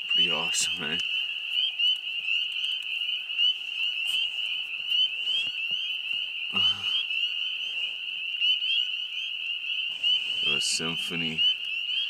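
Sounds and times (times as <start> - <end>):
frogs chorus: 0.0 - 12.0.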